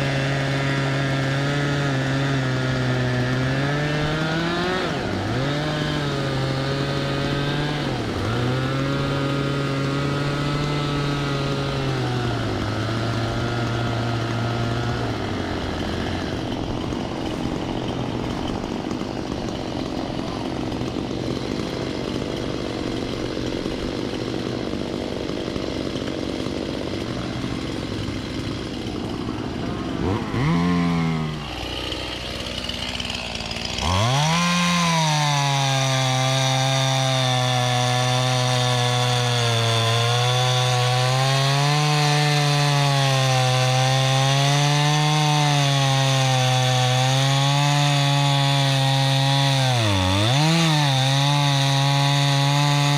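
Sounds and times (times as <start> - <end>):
small engine running at high revs: 0.0 - 52.9.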